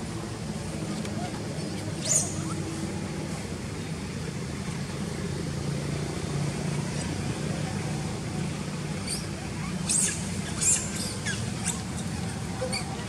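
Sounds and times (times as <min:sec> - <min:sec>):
distant motor vehicle rumble: 0:00.0 - 0:13.0.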